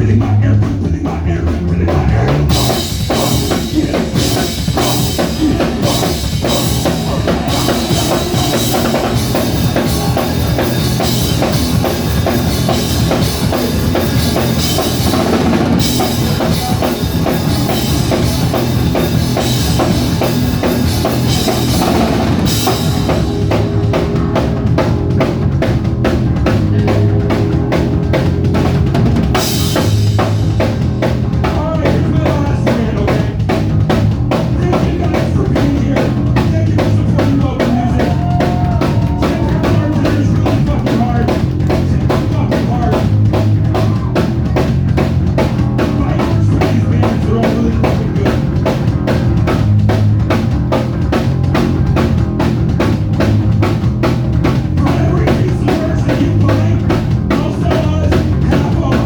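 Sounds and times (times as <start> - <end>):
drum kit beat: 0.0 - 59.0.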